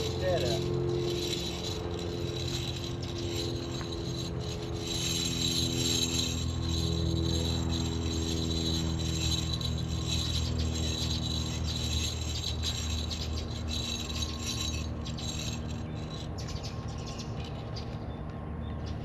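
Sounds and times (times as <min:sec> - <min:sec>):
pulleys clicking and rattling: 0:00.0 - 0:16.7
steady low hum: 0:00.0 - 0:19.0.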